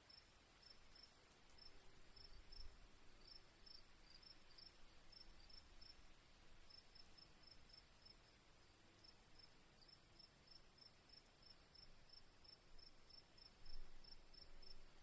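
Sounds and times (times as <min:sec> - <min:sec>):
faint crickets chirping: 0:00.0 - 0:15.0.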